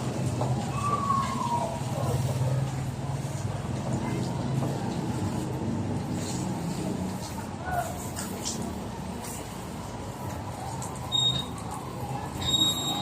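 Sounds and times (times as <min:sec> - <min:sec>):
faint voices: 0:00.0 - 0:13.0.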